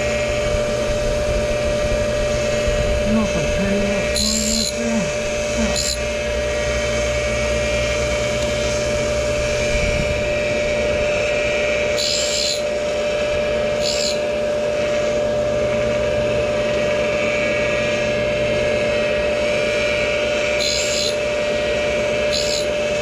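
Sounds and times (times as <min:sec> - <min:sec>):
grinder whining: 0:00.0 - 0:23.0
grinding wheel hissing on metal: 0:00.0 - 0:23.0.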